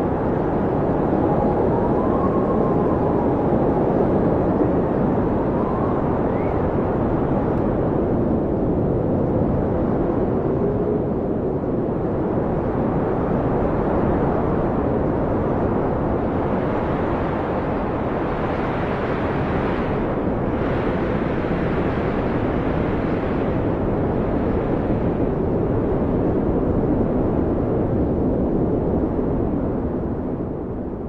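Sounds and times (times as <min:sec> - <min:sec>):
blizzard wind howling: 0:00.0 - 0:31.0.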